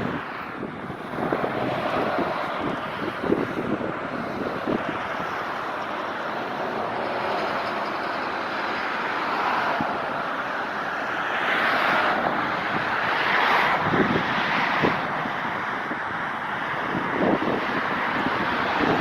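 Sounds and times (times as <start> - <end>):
outdoor rushing noise: 0.0 - 19.0.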